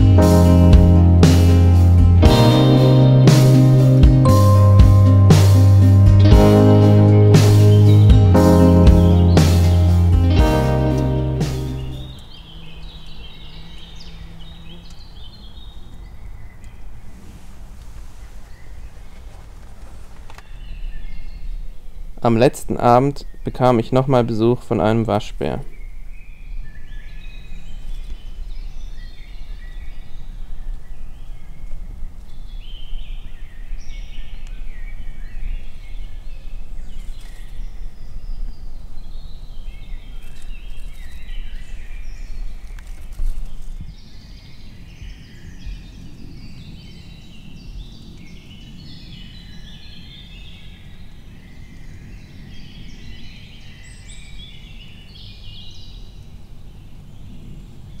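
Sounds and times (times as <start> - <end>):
songbirds chirping and warbling: 5.5 - 58.0.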